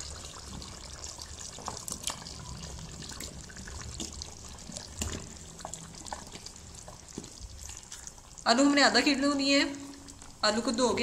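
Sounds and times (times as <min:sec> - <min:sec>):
curry sauce bubbling: 0:00.0 - 0:11.0.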